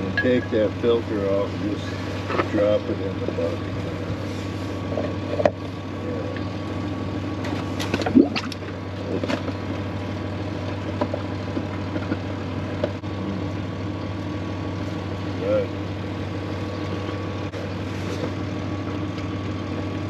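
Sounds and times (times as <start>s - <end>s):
engine-like hum: 0.0s - 20.0s.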